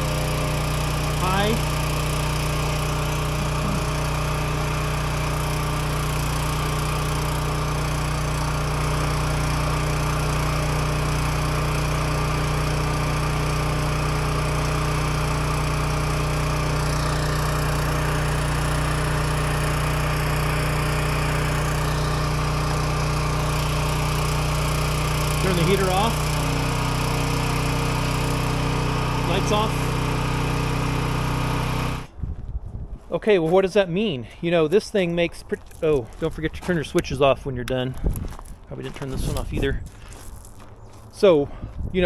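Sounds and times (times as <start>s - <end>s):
portable generator running: 0.0s - 32.2s, 33.2s - 42.0s.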